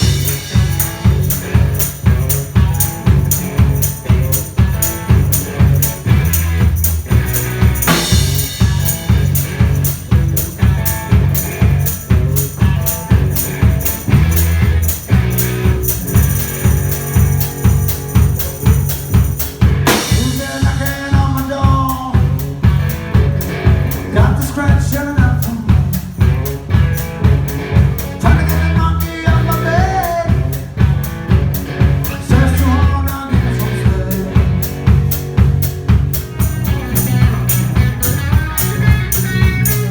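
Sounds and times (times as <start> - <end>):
bass: 0.0 - 39.9
drum kit steady beat: 0.0 - 39.9.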